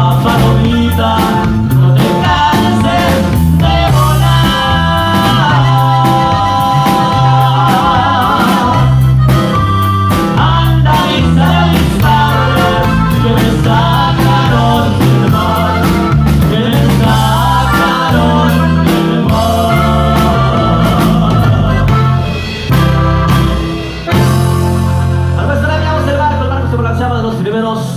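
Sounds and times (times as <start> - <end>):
person singing: 0.0 - 22.8
steady beat: 0.0 - 26.3
bass: 0.0 - 27.9
guitar: 0.0 - 27.9.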